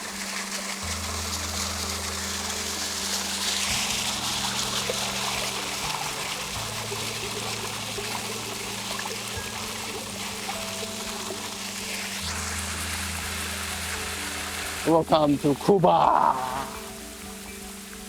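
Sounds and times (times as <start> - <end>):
soft background music: 0.0 - 18.0
waterfall water rushing: 0.0 - 18.0.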